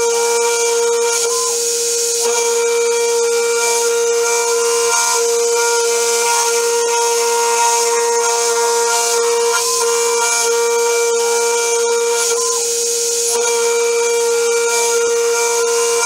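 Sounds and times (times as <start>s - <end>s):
hiss of cutting and coolant spray: 0.0s - 16.0s
milling spindle whining: 0.0s - 16.0s.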